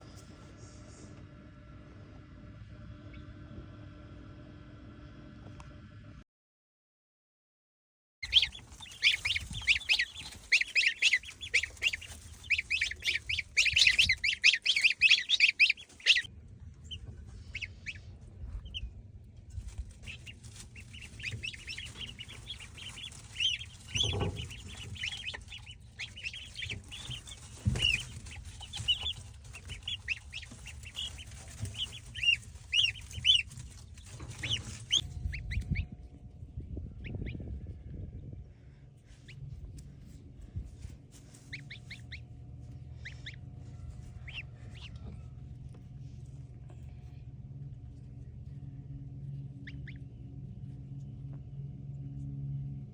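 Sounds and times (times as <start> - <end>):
baby chicks peeping: 8.2 - 38.3, 39.1 - 51.4
low rumble: 8.2 - 52.9.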